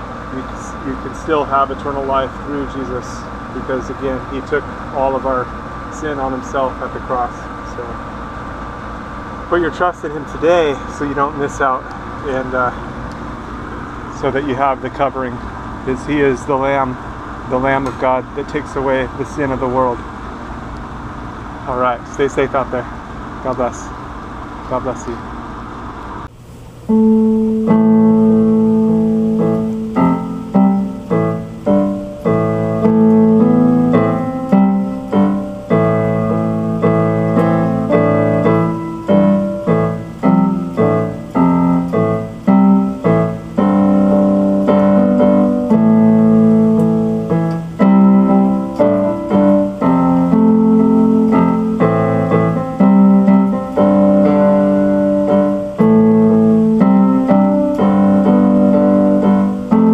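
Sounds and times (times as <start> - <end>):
slow piano chords on keyboard: 0.0 - 19.9, 26.8 - 59.9.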